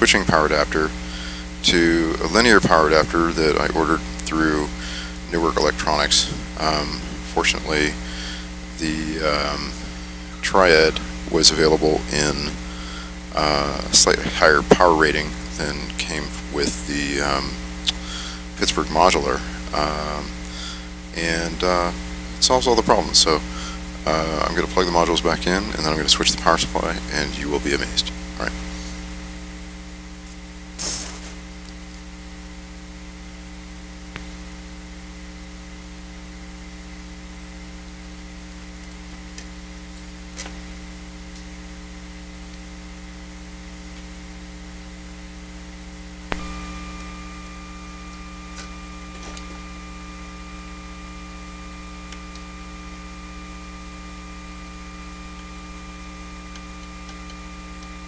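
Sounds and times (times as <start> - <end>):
thin high whine: 0.0 - 38.6, 44.1 - 58.0
mains hum and buzz: 0.0 - 58.0.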